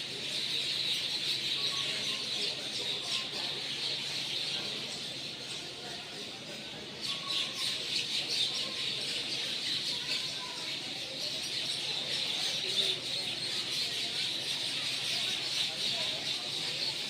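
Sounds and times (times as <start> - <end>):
flock of small birds chirping: 0.0 - 17.0.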